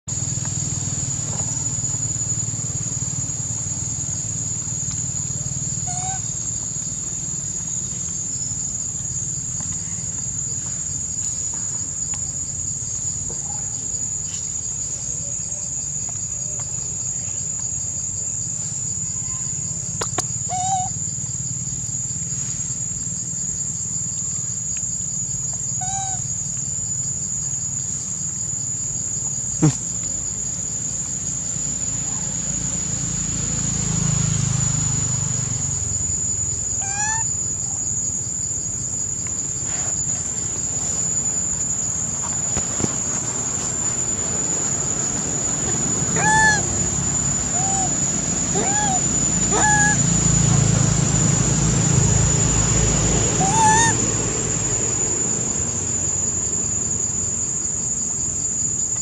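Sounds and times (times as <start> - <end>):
insects chirring drone: 0.0 - 59.0.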